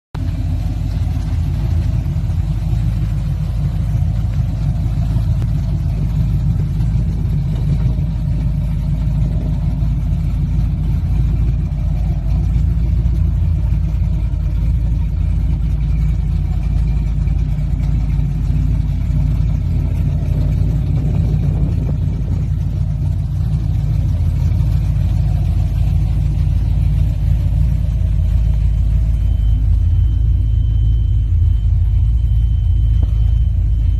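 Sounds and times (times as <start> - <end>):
pickup truck engine idling: 0.2 - 33.9.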